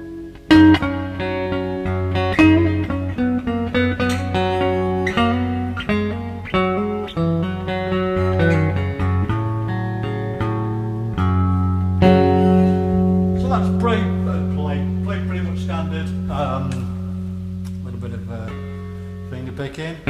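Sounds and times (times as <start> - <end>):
finger-picked resonator guitar: 0.0 - 20.0.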